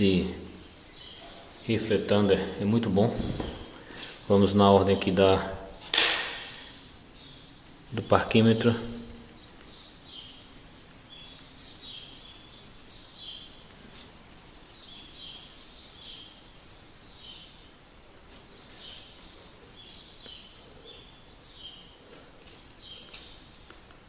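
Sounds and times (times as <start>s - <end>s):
faint background hiss: 0.0s - 24.0s
small birds chirping: 0.0s - 24.0s.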